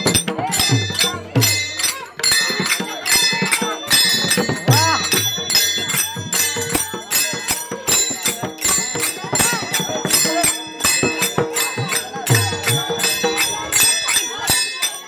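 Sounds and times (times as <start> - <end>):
hand cymbals ringing: 0.0 - 15.0.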